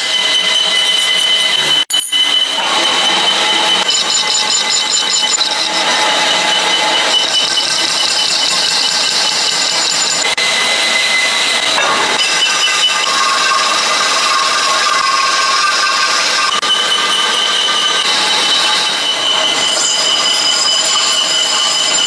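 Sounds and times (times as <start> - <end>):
power tool running: 0.0 - 22.0.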